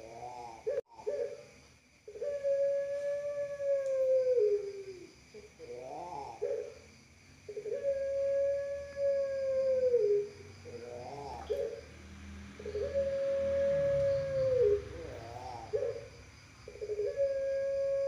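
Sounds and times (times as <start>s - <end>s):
dove cooing: 0.0s - 1.5s, 2.1s - 6.8s, 7.5s - 18.0s.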